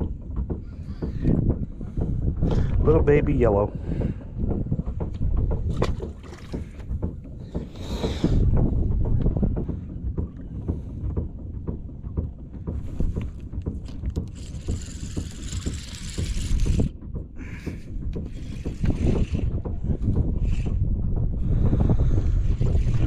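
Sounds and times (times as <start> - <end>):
low rumble: 0.0 - 23.0
wind buffeting microphone: 0.0 - 23.0.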